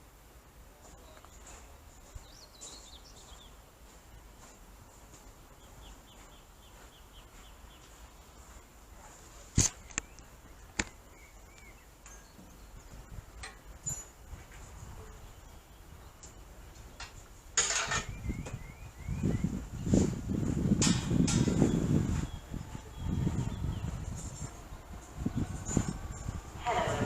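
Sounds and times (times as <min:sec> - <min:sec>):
small birds chirping: 0:00.7 - 0:27.0.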